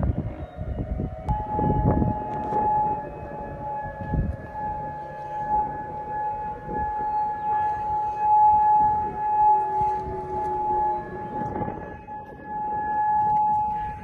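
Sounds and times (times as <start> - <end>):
low rumble: 0.0 - 14.0
lower tone sliding downward: 0.0 - 14.0
warning siren steady tone: 0.0 - 14.0.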